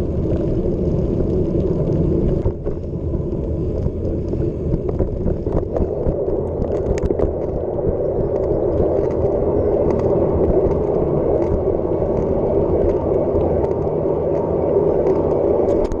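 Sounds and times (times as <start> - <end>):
tyre rumble: 0.0 - 16.0
wind rushing on microphone: 0.0 - 16.0
bike clicks and rattles: 0.1 - 16.0.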